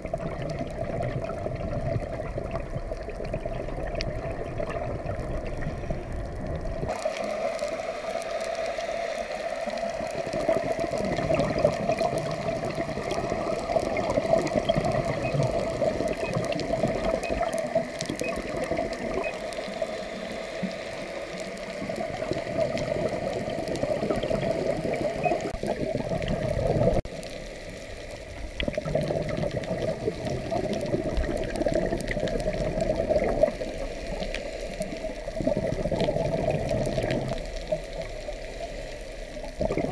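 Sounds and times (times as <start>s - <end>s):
bubbles: 0.0s - 7.9s, 9.6s - 20.0s, 21.0s - 27.2s, 28.2s - 38.4s, 39.3s - 39.9s
muffled underwater rushing: 0.0s - 39.9s.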